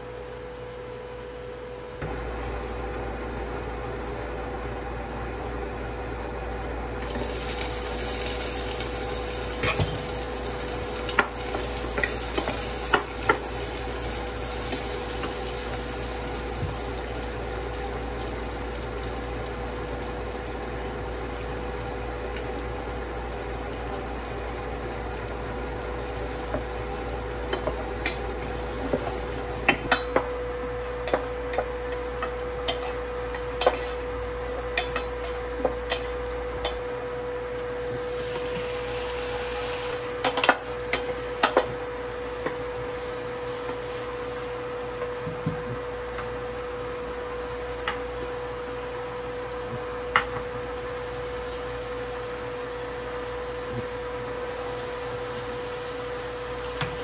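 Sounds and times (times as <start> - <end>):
onions sizzling in a pot: 6.9 - 57.0.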